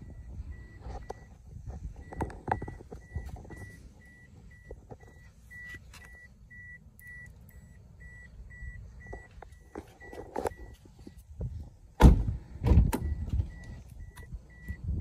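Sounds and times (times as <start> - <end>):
car door warning chime beeping: 0.0 - 11.2, 12.8 - 15.0.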